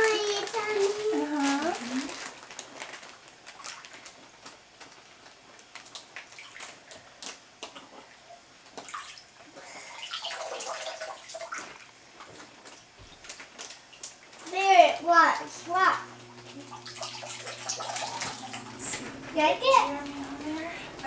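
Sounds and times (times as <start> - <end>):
water lapping and dripping: 0.0 - 4.2, 5.6 - 21.0.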